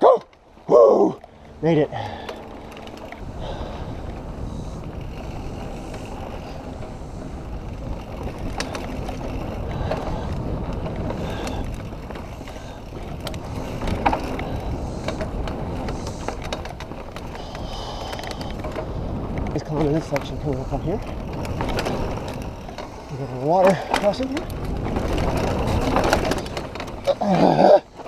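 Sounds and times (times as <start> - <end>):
bike clicks and rattles: 0.0 - 28.0
bike tyres rolling on dirt: 0.0 - 28.0
wind on microphone: 1.9 - 28.0.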